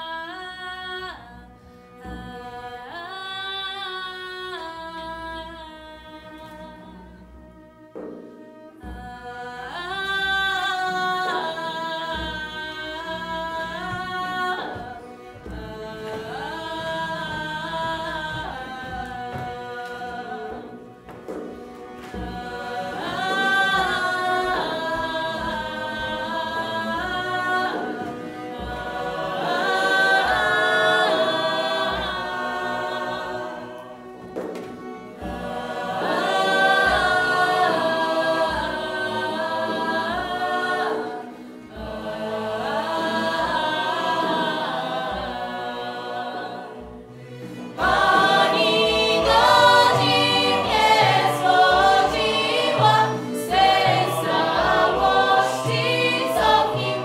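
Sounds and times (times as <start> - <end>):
group of voices singing: 2.0 - 7.2, 8.5 - 57.0.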